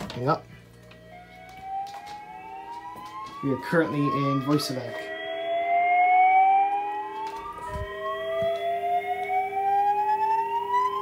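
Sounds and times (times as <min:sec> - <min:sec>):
rising whoop alarm tone: 0:01.0 - 0:11.0.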